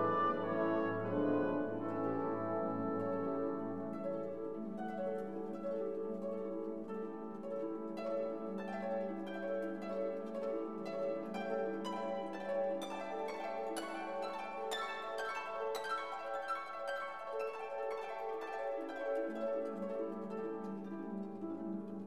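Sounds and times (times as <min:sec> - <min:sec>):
light instrumental music: 0:00.0 - 0:22.0.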